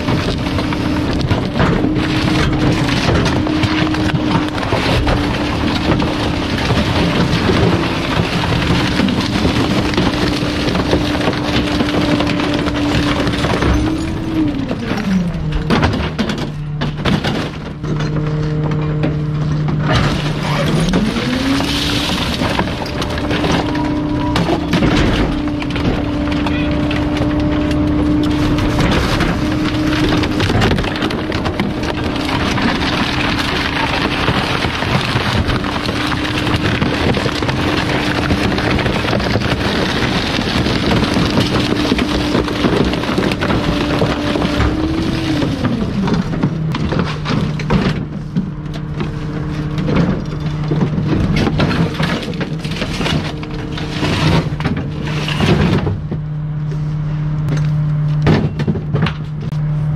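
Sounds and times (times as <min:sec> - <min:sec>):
crackling and crunching of crushed waste: 0:00.0 - 0:59.9
garbage truck engine running: 0:00.0 - 0:59.9.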